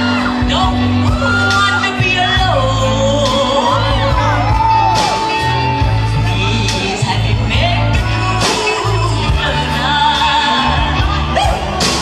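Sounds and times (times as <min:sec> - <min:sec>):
live band playing: 0:00.0 - 0:12.0
woman singing lead: 0:00.0 - 0:12.0.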